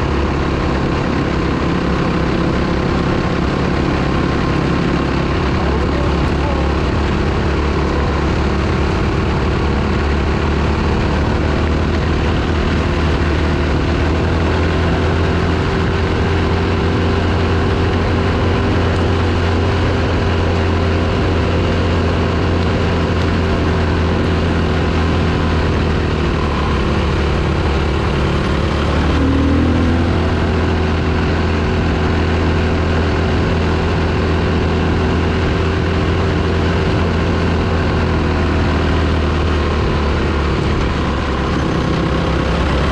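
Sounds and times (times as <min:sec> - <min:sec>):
dirt bike engine running: 0:00.0 - 0:42.9.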